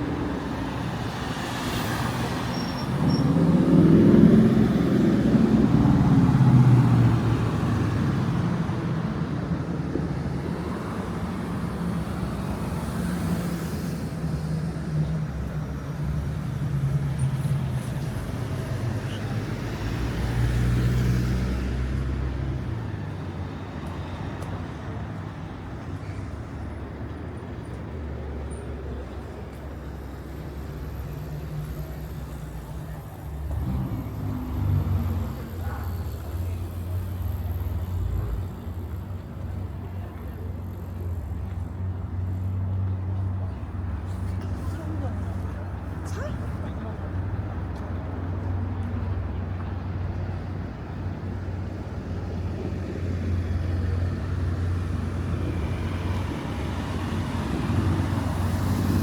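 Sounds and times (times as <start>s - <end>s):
car engines passing: 0.0s - 59.0s.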